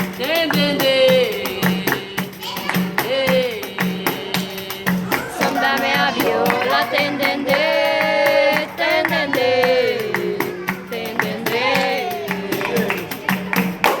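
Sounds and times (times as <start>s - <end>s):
percussion beat with jingling: 0.0s - 14.0s
voices singing: 0.0s - 14.0s.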